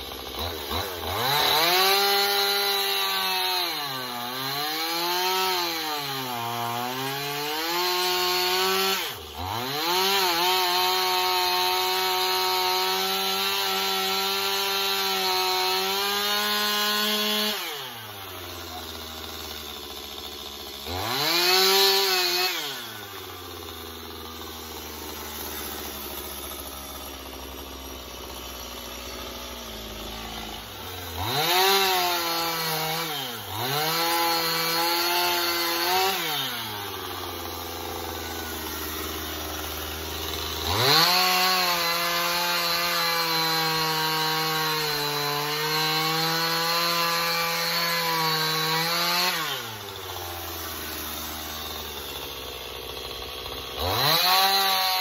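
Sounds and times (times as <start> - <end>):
chainsaw cutting wooden log: 0.0 - 55.0
chainsaw idling: 0.0 - 55.0.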